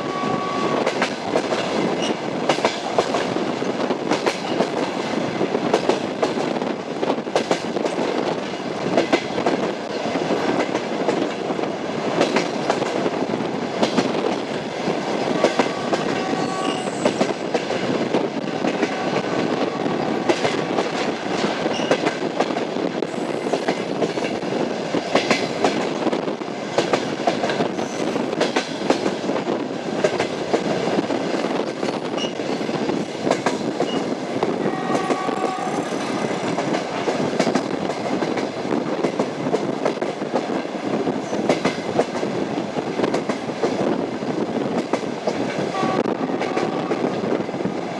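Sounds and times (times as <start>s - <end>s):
train wheels clattering over rail joints: 0.8s - 47.0s.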